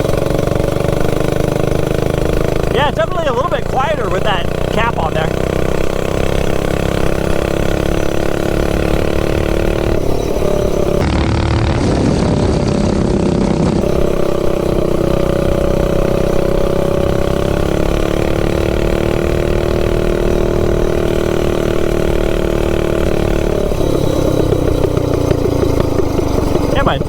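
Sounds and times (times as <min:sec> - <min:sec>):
minibike engine revving high: 0:00.0 - 0:27.0.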